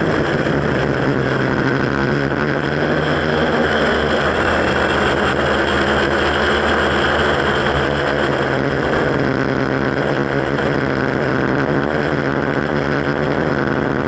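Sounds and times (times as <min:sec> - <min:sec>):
quadcopter motors buzzing: 0:00.0 - 0:14.0.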